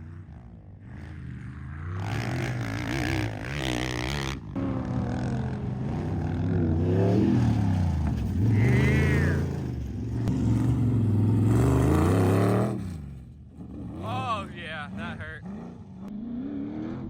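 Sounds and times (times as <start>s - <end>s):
off-road engines revving: 0.0s - 17.0s.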